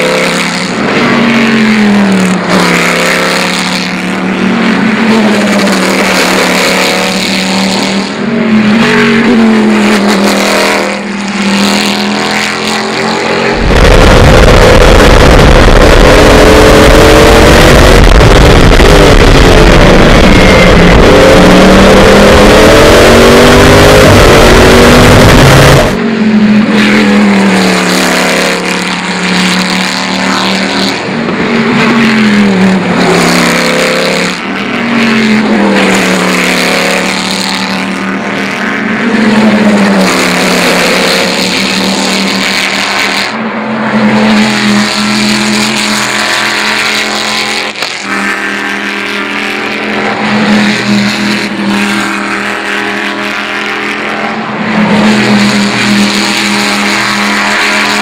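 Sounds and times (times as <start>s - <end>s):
racing cars passing by: 0.0s - 58.0s.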